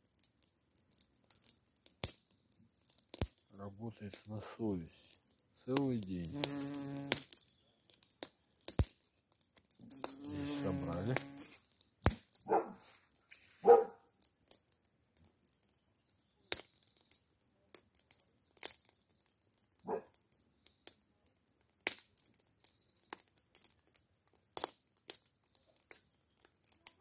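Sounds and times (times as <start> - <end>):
sparse crackles and rustles: 0.0 - 27.0.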